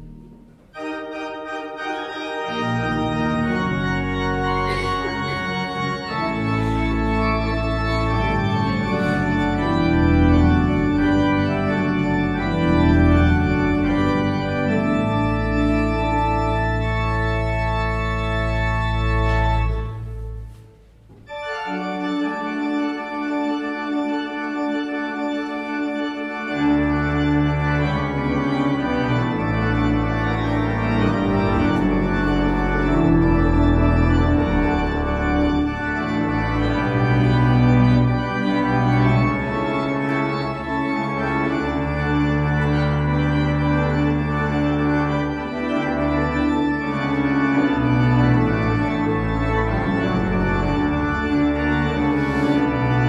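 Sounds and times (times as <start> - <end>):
church organ chords: 0.0 - 53.0
deep organ pedal bass notes: 0.0 - 53.0.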